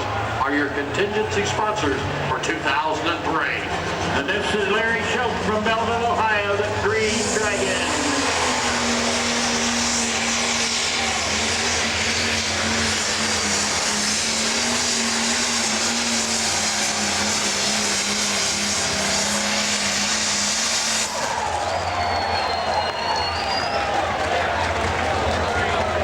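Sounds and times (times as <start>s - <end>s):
diesel engine running hard: 0.0s - 26.0s.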